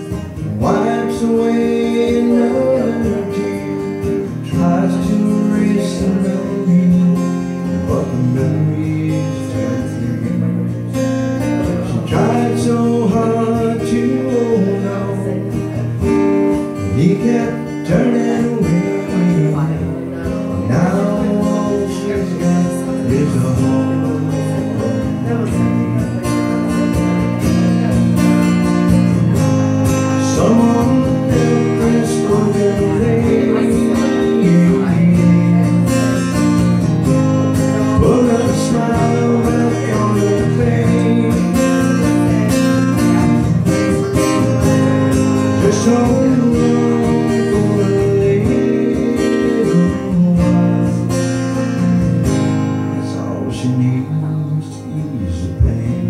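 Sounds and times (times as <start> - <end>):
acoustic guitar strummed and picked: 0.0 - 56.0.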